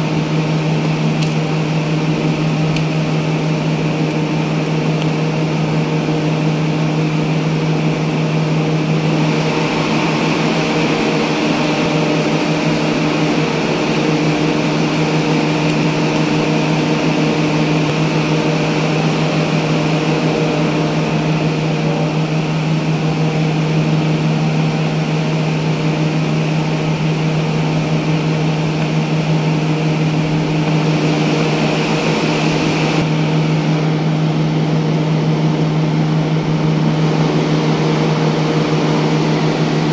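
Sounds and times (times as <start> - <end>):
motor humming: 0.0 - 39.9.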